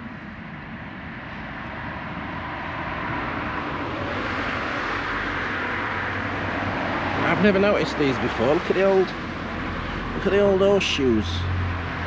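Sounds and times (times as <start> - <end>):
passing vehicle tyre and engine noise: 0.0 - 12.0.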